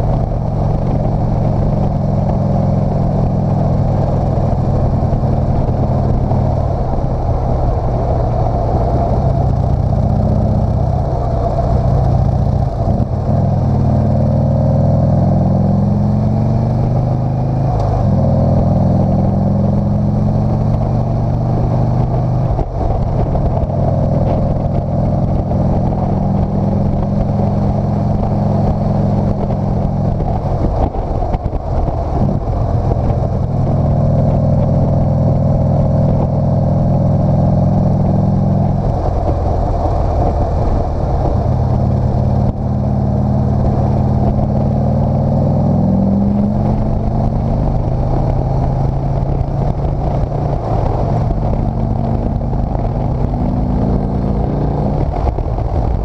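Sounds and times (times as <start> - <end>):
motorcycle engine under throttle: 0.0 - 56.0.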